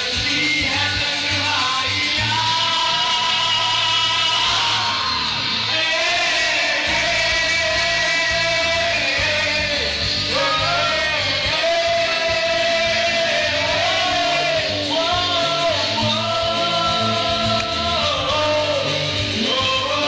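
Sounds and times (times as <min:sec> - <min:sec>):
person singing: 0:00.0 - 0:20.0
rock band playing live: 0:00.0 - 0:20.0.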